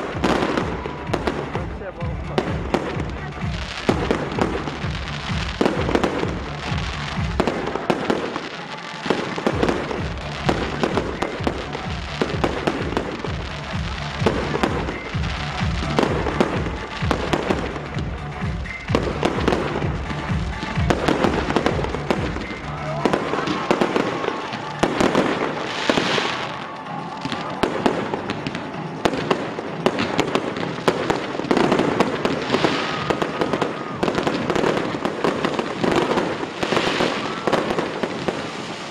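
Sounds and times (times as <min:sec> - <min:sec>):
fireworks bursting and crackling: 0:00.0 - 0:38.9
music playing: 0:00.0 - 0:38.9.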